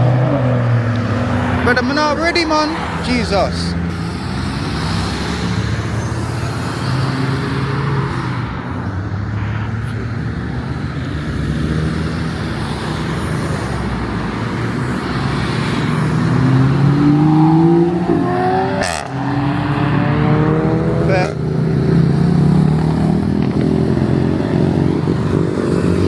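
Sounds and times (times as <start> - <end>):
car engine accelerating: 0.0 - 26.0
car engines pulling away: 0.0 - 26.0.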